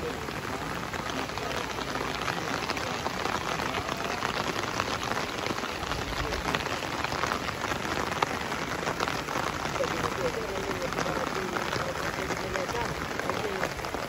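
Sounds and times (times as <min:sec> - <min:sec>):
rain on a wet road: 0:00.0 - 0:14.0.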